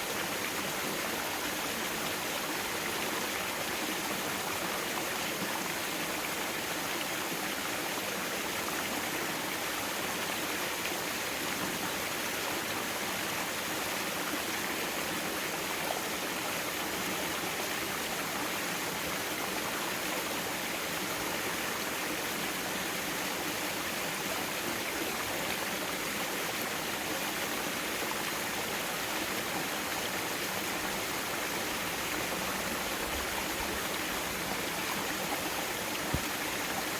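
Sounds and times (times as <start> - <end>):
stream water rushing over rocks: 0.0 - 36.9.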